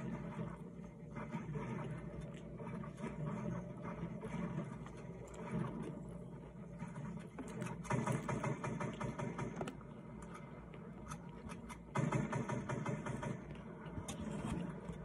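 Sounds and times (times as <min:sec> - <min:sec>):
person chewing food: 0:00.0 - 0:08.3, 0:09.0 - 0:11.9, 0:13.4 - 0:15.0
low steady hum: 0:00.0 - 0:15.0.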